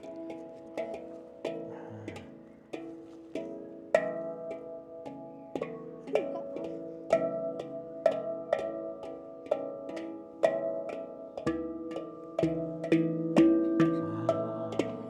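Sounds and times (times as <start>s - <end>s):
handpan playing: 0.0s - 15.0s.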